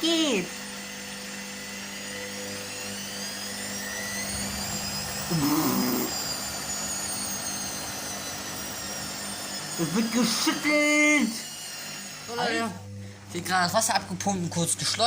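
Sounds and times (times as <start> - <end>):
washing machine spin whine: 0.0 - 15.0.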